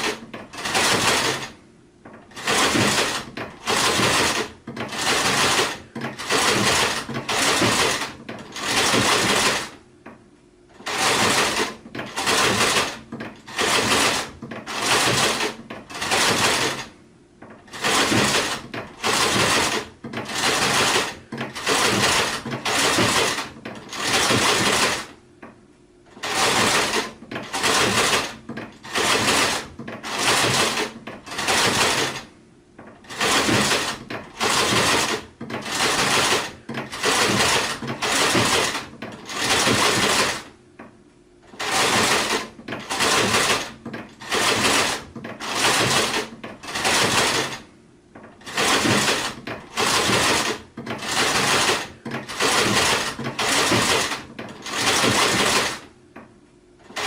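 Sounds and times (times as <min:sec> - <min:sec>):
sewing machine stitching: 0:00.0 - 0:09.8, 0:10.7 - 0:25.2, 0:26.1 - 0:40.6, 0:41.4 - 0:55.9, 0:56.8 - 0:57.0.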